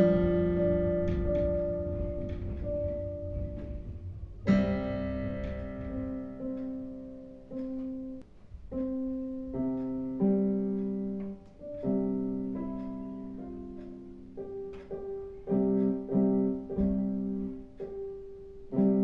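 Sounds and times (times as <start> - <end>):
piano notes and chords: 0.0 - 19.0.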